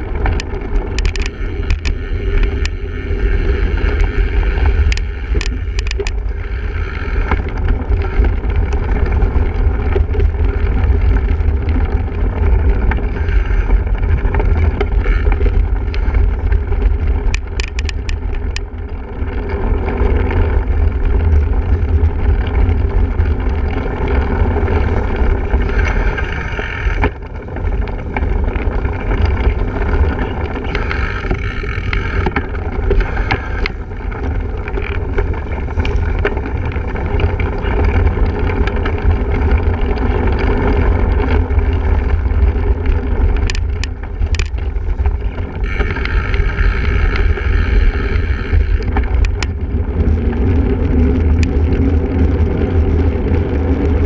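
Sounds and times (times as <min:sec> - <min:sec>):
bike clicks and rattles: 0:00.0 - 0:54.0
wind rumble on microphone: 0:00.0 - 0:54.0.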